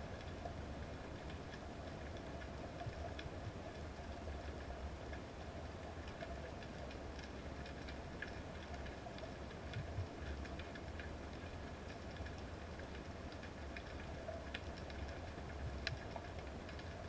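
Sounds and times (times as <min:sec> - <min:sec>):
faint clicks and crackles: 0:00.0 - 0:17.0
underwater low rumble: 0:00.0 - 0:17.0.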